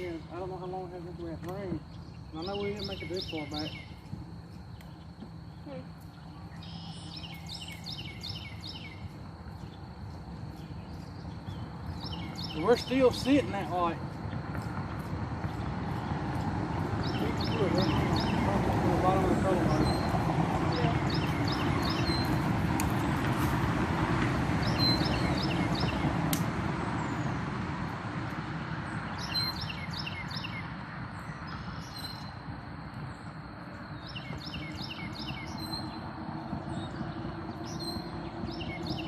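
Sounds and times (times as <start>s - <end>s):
songbird chirping: 0.0s - 27.5s, 28.3s - 39.0s.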